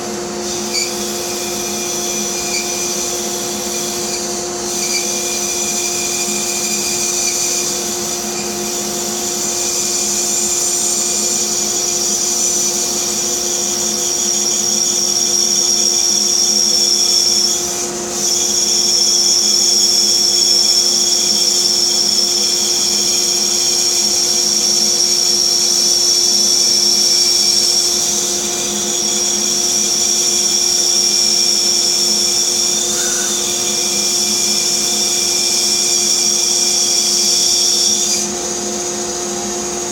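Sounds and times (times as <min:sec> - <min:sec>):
bandsaw cutting wood: 0:00.0 - 0:39.8.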